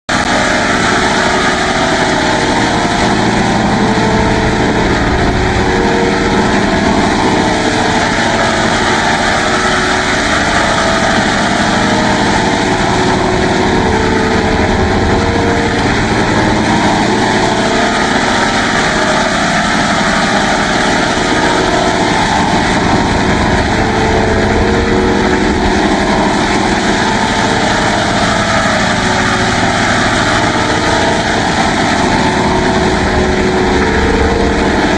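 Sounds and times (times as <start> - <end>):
electronic vocoder drone: 0.1 - 34.9.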